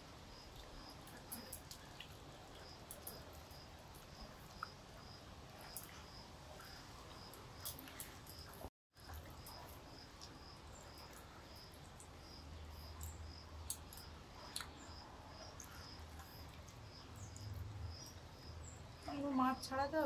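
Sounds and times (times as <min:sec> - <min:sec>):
soft clicks of eating: 0:00.5 - 0:04.8, 0:05.6 - 0:18.3
insect chirping: 0:02.5 - 0:20.0.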